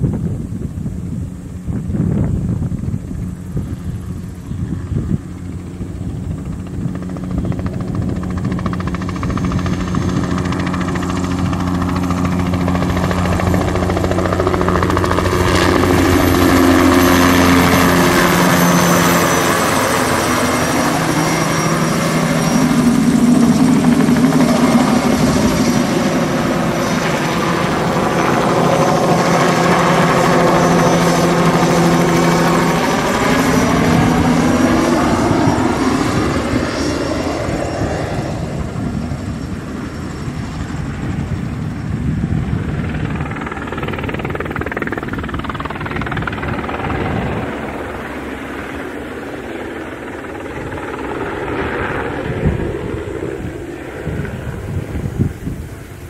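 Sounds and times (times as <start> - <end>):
helicopter rotor beat: 0.0 - 56.0
high turbine whine: 0.0 - 56.0.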